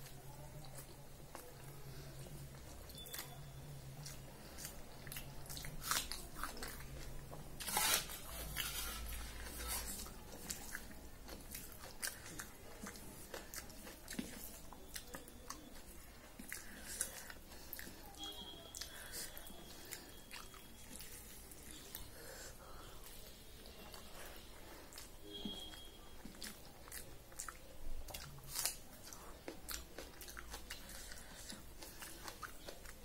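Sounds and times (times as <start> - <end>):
chewing and mouth clicks: 0.0 - 7.4, 9.4 - 33.0.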